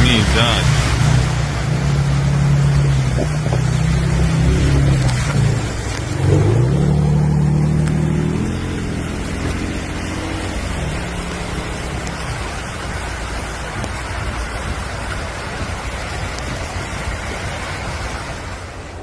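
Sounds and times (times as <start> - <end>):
passing car engine: 0.0 - 18.7
heavy rain pouring: 0.0 - 19.0.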